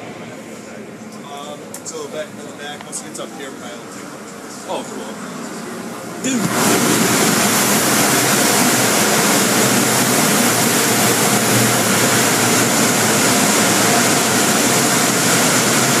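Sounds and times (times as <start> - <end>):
air-dryer blowers rushing: 0.0 - 16.0.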